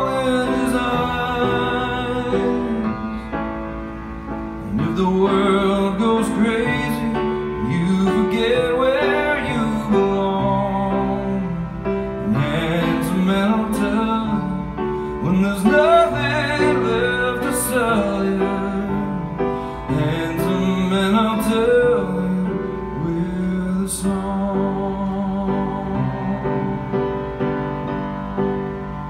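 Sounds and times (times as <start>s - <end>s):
man singing a slow ballad: 0.0s - 3.4s, 4.6s - 27.0s
grand piano chords: 0.0s - 29.0s.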